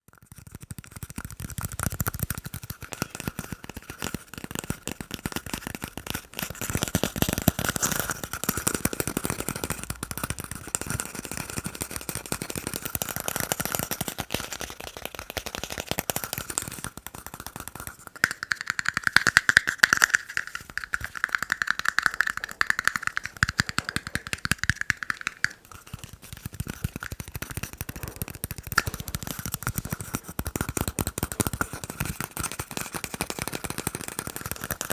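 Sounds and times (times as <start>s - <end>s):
fast tapping on plastic cups: 0.1s - 34.9s.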